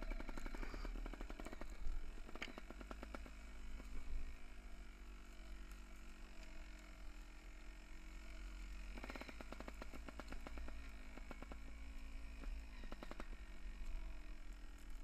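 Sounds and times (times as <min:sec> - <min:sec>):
bike clicking and rattling: 0:00.0 - 0:15.0.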